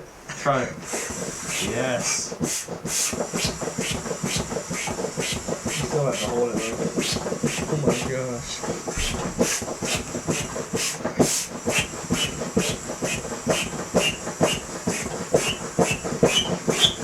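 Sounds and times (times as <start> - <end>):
air pump puffing: 0.7 - 17.0.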